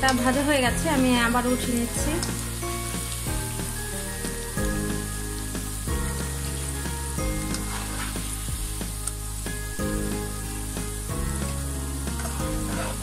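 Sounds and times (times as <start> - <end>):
food deep-frying in oil: 0.0 - 13.0
low background music: 0.0 - 13.0.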